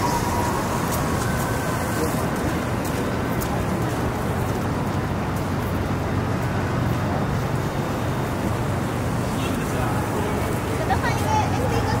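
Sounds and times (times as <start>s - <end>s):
traffic and engine noise: 0.0s - 12.0s.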